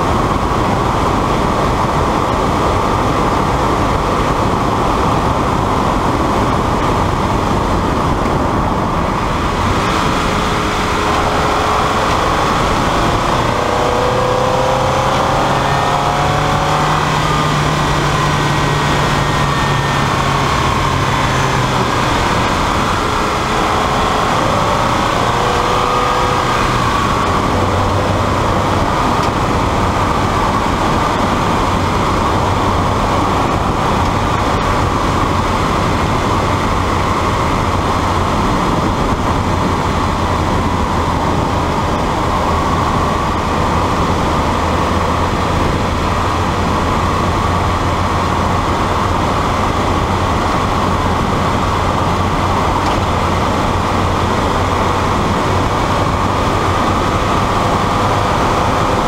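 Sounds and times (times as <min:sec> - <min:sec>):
car engine running: 0:00.0 - 0:59.0
wind and road noise: 0:00.0 - 0:59.0.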